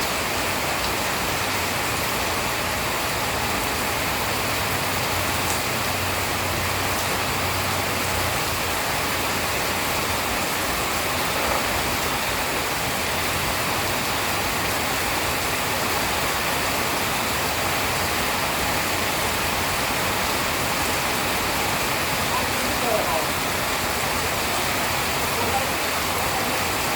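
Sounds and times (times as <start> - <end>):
rain falling steadily: 0.0 - 26.9.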